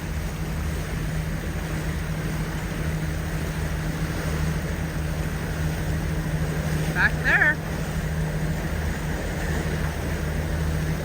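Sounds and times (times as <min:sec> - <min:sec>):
boat engine droning: 0:00.0 - 0:11.0
water noise: 0:00.0 - 0:11.0.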